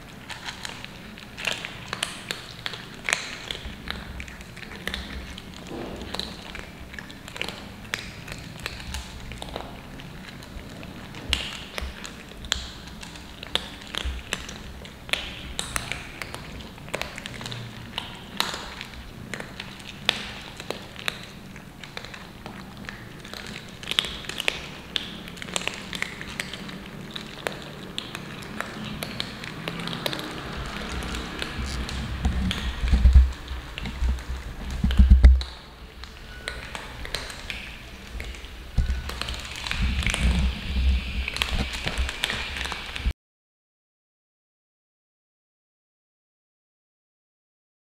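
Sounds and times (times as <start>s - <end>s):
cats crunching dry kibble: 0.0s - 43.0s.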